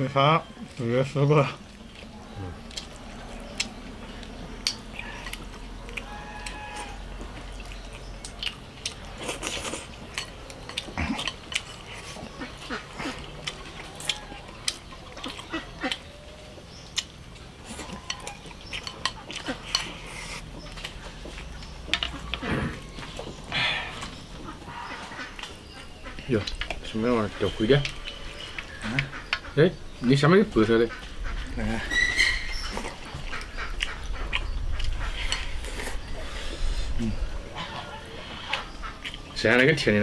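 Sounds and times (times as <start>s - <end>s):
animal calling: 1.4s - 9.8s, 10.5s - 40.0s.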